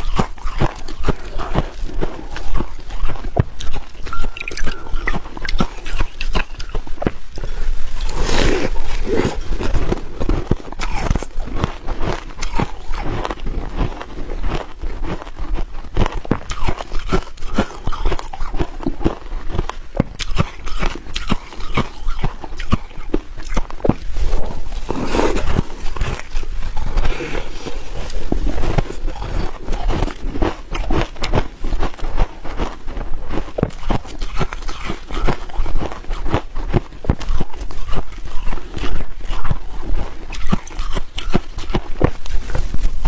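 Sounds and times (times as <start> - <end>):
chewing crunchy ice: 0.0 - 43.0.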